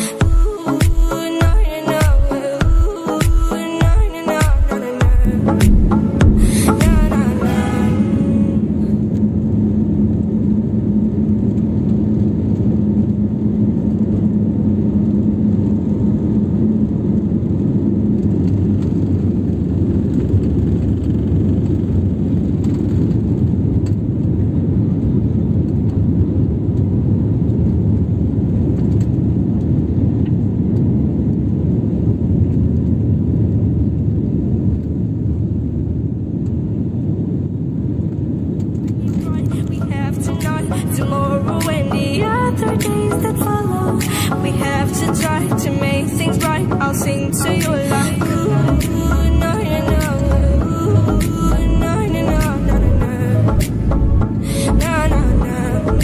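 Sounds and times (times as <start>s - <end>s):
steady hum: 0.0s - 25.6s, 35.8s - 56.0s
jet engines roaring in cabin: 0.0s - 56.0s.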